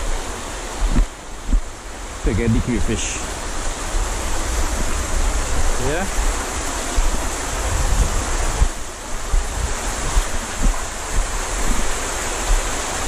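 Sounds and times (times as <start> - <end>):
stream rushing over stones: 0.0 - 13.0
wind buffeting microphone: 0.0 - 13.0.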